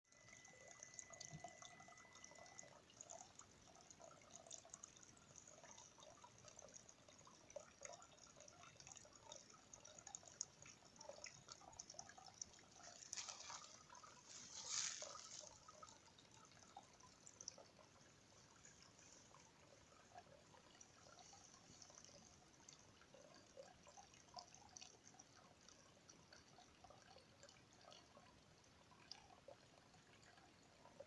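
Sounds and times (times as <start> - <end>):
water drips: 0.1 - 31.0
water trickling: 0.1 - 31.0.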